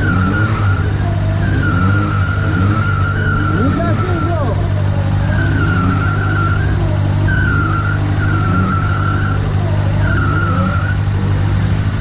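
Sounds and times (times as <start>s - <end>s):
car engine running under load: 0.0s - 12.0s
high-pitched squeal: 0.0s - 12.0s.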